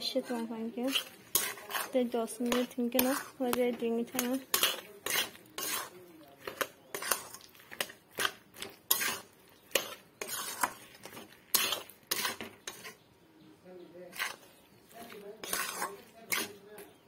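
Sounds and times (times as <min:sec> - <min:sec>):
metal spatula scraping a pan: 0:00.0 - 0:13.1, 0:14.0 - 0:17.0.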